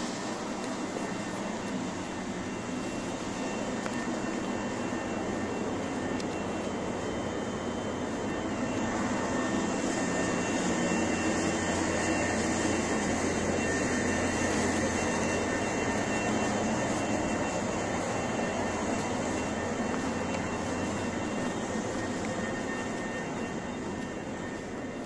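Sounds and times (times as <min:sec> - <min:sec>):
whirring drone of standing train: 0:00.0 - 0:25.0.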